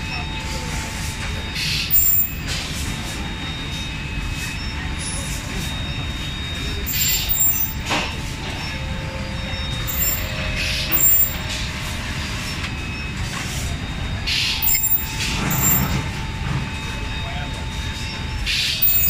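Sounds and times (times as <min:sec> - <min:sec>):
faint steady whine: 0:00.0 - 0:19.0
machine rumble: 0:00.0 - 0:19.0.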